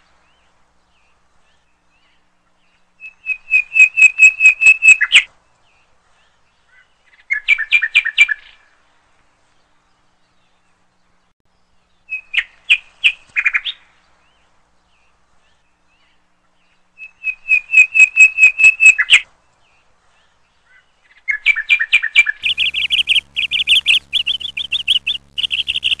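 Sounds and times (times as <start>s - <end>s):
songbird chirping: 0.1s - 26.0s.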